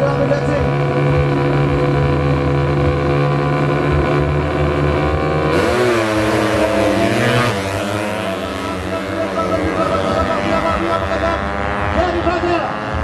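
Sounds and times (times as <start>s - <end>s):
motorcycles revving and accelerating: 0.0s - 13.0s.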